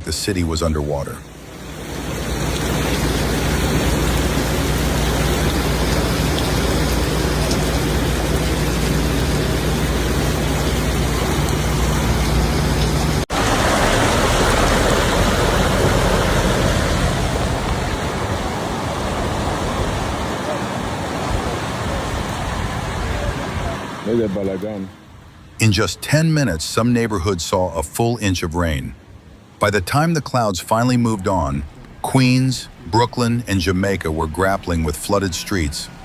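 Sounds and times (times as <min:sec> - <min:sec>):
rushing floodwater: 0:00.0 - 0:36.0
heavy rain: 0:01.2 - 0:25.8, 0:30.8 - 0:36.0.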